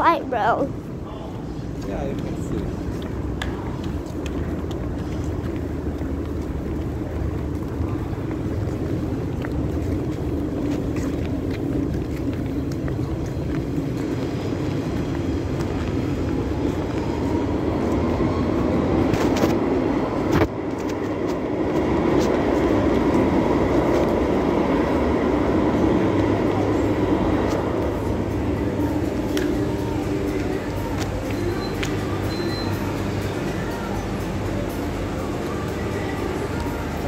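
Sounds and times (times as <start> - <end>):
tram rumbling: 0.0 - 37.0.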